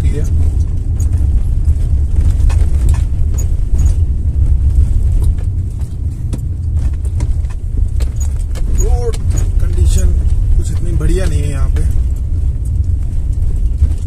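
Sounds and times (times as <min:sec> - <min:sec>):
light clicks and rattles: 0:00.0 - 0:14.0
vehicle engine and road rumble: 0:00.0 - 0:14.0.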